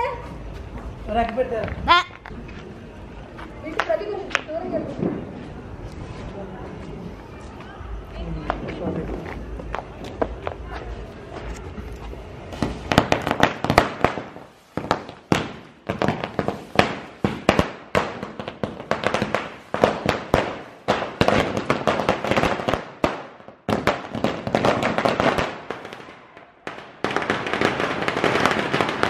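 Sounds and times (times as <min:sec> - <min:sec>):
firecrackers banging and crackling: 0:00.0 - 0:05.9, 0:08.4 - 0:29.0.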